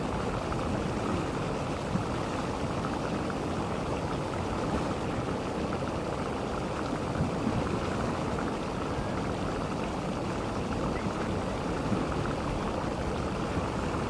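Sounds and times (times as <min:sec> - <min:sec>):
geothermal vent bubbling: 0:00.0 - 0:14.0.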